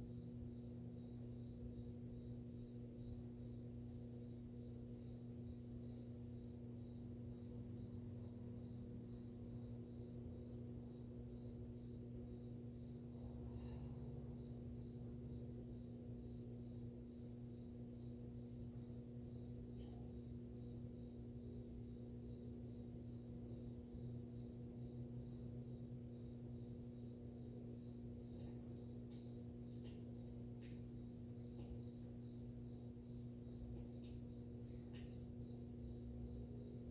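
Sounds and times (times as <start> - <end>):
aquarium pump humming: 0.0 - 36.9
faint high ticking chirp: 0.0 - 36.9.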